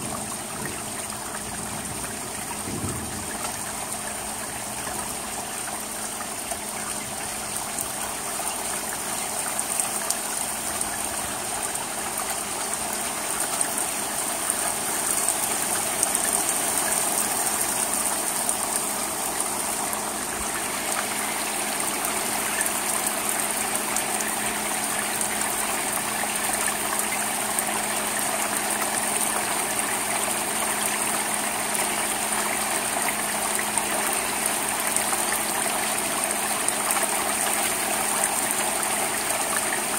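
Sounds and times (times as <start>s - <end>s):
rain hissing on a roof: 0.0s - 39.9s.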